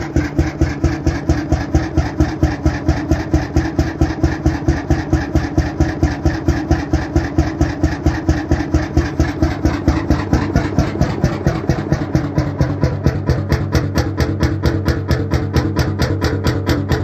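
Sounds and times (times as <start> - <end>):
oil engine running: 0.0 - 17.0.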